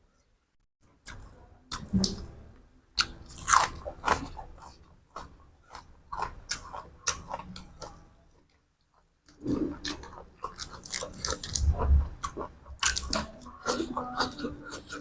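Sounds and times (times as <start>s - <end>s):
person chewing crunchy food: 3.0s - 15.0s.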